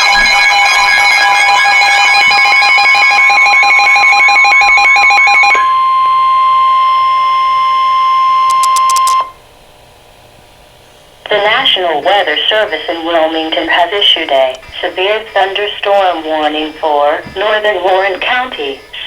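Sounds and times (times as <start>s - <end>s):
pulsing warbling alarm: 0.0s - 9.4s, 11.3s - 19.0s
steady electronic warning tone: 0.0s - 19.0s.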